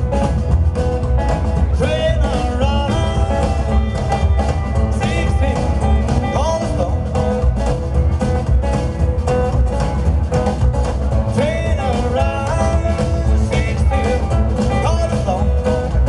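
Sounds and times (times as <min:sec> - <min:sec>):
bending sliding lead guitar: 0:00.0 - 0:16.0
rock and roll band playing: 0:00.0 - 0:16.0.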